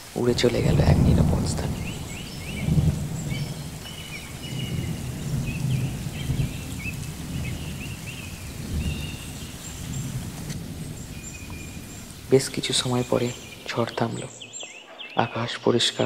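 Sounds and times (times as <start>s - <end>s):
thunder rumbling: 0.0s - 14.7s
rain: 0.0s - 16.0s.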